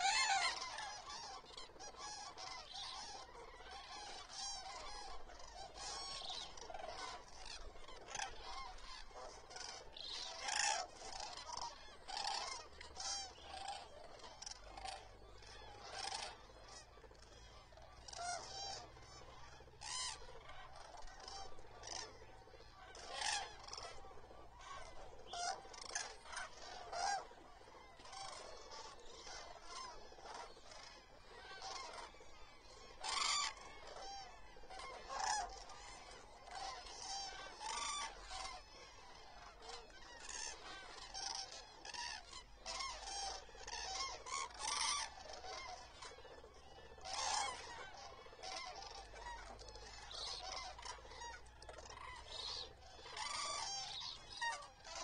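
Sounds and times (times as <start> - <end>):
cranes trumpeting calls: 0.0 - 55.0.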